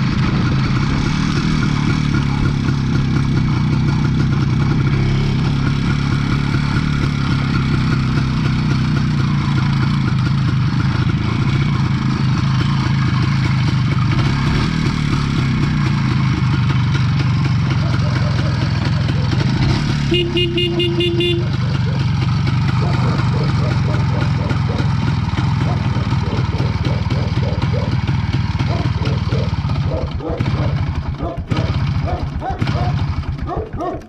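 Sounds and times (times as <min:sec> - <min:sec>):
two-stroke motorcycle engine running: 0:00.0 - 0:34.0.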